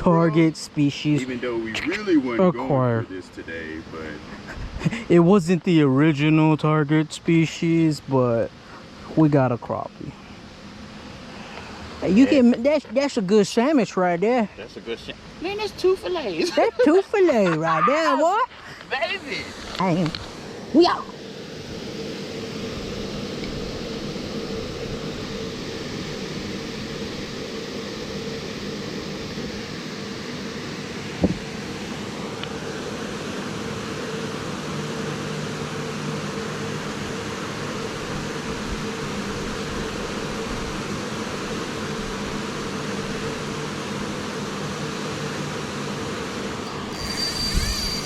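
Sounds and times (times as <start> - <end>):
mechanical hum: 0.0 - 48.0.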